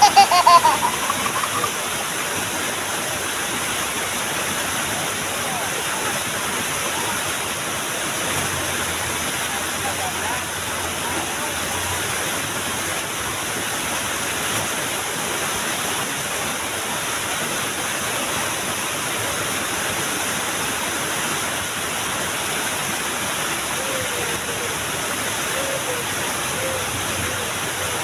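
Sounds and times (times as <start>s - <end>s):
water pouring over waterfall: 0.0s - 28.0s.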